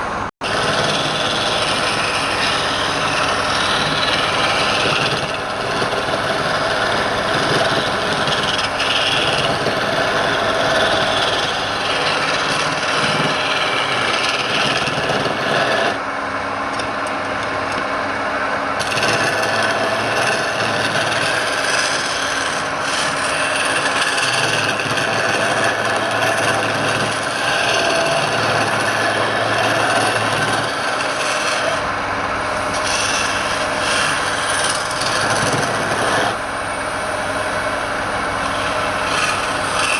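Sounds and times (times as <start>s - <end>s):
tool scraping wood on lathe: 0.4s - 16.0s, 18.8s - 39.9s.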